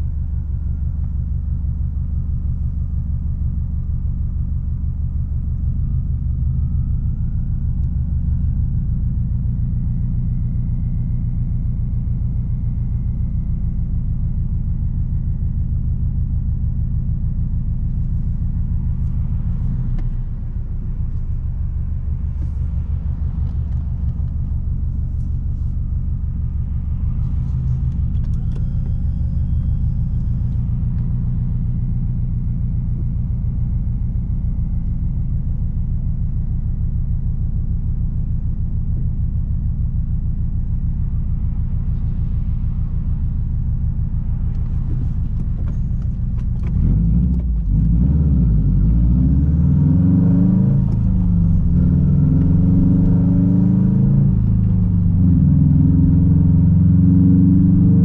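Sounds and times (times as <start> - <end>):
car exhaust droning: 0.0 - 58.0.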